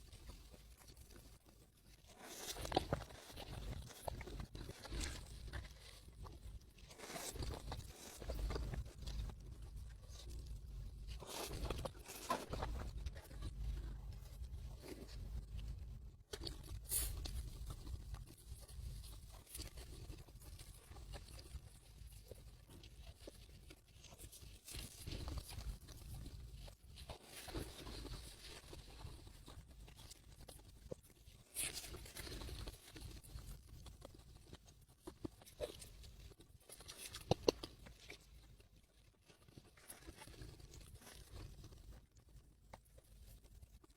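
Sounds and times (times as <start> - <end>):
crunching and chewing: 0.0 - 43.9.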